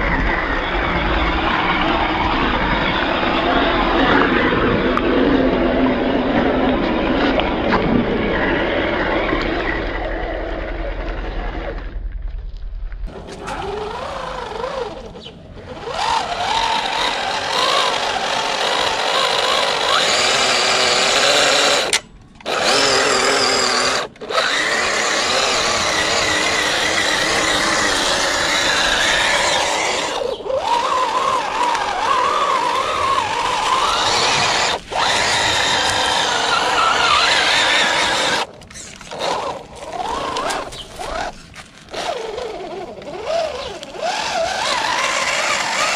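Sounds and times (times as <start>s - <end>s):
electric motor and gears whining: 0.0s - 12.1s, 13.0s - 45.9s.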